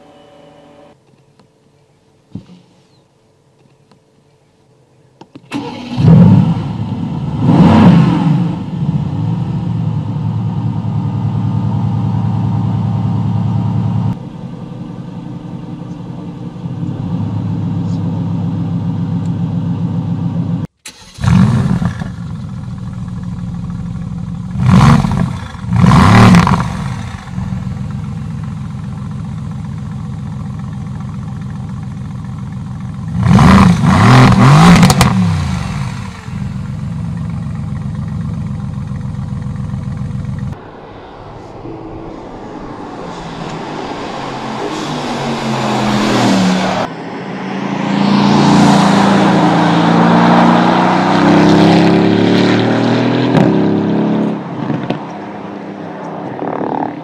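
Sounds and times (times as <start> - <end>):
car engine starting and revving: 5.5 - 40.6, 42.7 - 55.2.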